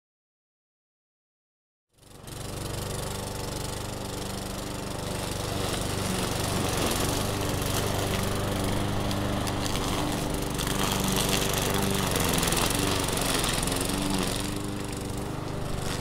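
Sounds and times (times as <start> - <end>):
lawn mower running: 2.0 - 16.0.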